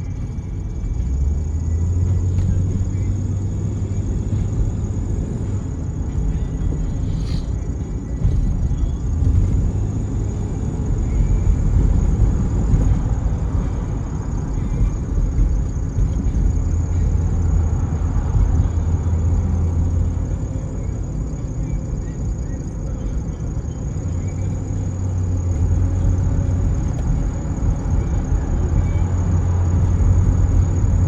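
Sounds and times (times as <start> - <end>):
engine and road noise: 0.0 - 31.0.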